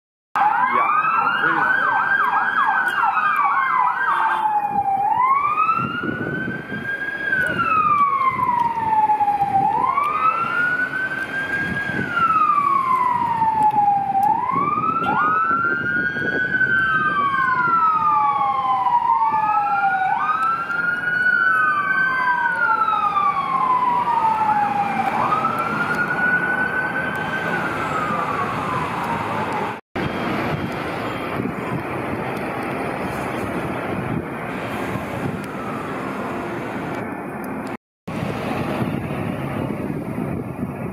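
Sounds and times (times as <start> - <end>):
second siren wailing: 0.4 - 37.2
fire engine siren yelping and wailing: 0.4 - 40.9
trucks and traffic running: 0.4 - 40.9.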